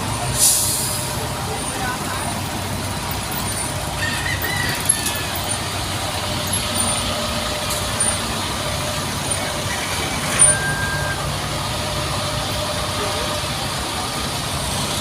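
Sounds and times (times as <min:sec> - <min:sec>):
hum of street traffic: 0:00.0 - 0:15.0.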